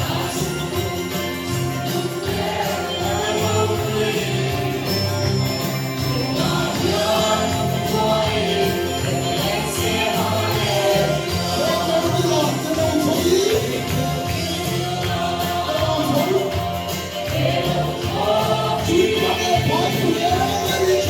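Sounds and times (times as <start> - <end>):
jingling percussion: 0.0 - 21.0.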